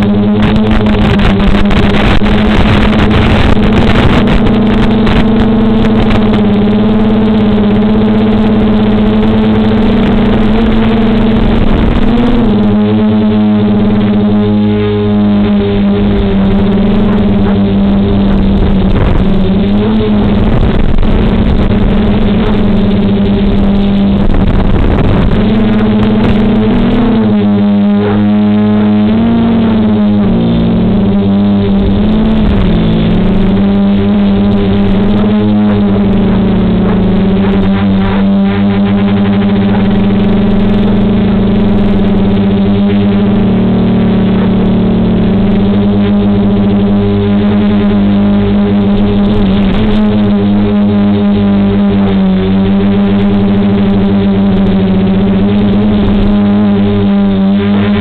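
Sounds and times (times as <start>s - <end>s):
quadcopter motors hovering hum: 0.0s - 58.0s.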